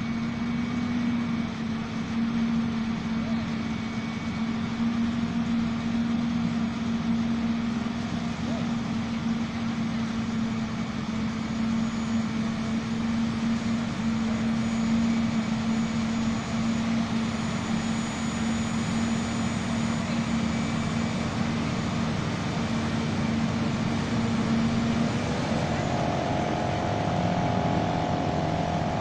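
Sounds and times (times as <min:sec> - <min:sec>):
forage harvester drone: 0:00.0 - 0:29.0.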